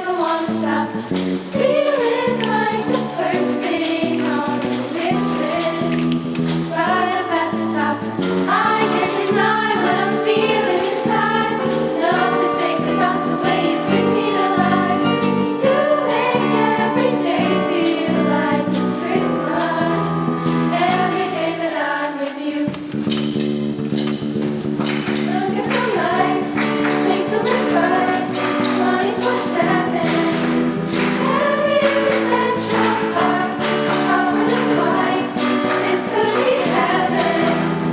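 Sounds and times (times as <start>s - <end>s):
steady beat: 0.0s - 21.8s, 22.8s - 37.9s
young voices singing in a choir: 0.0s - 23.4s, 24.7s - 37.9s.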